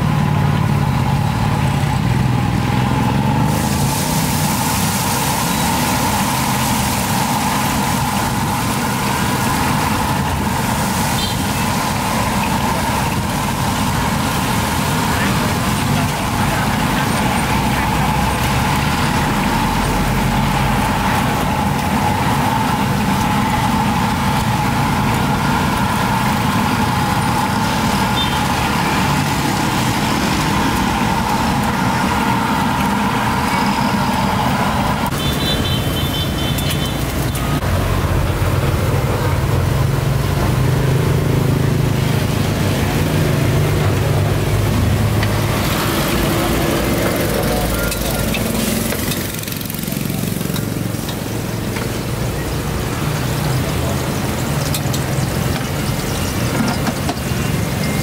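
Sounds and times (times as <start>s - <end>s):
vehicle engines running: 0.0s - 58.0s.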